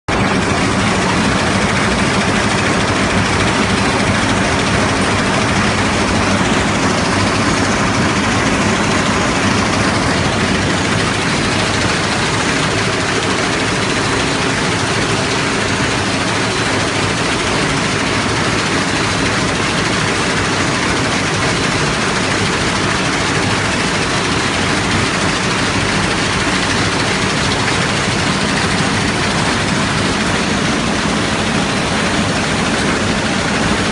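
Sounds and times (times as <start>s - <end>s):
packing machine running: 0.1s - 33.9s.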